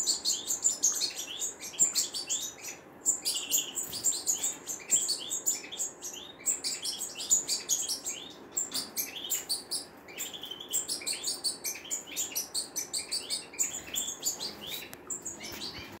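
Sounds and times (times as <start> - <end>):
finches twittering: 0.0 - 16.0.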